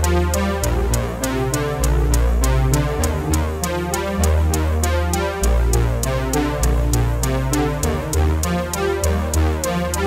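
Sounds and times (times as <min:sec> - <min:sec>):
electronic music with bass: 0:00.0 - 0:10.0.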